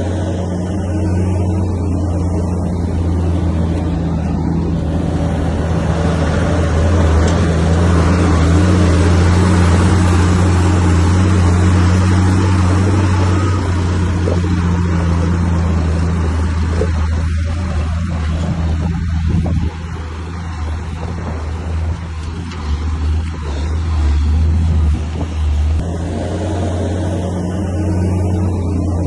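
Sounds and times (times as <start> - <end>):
heavy diesel engine drone: 0.0 - 29.0.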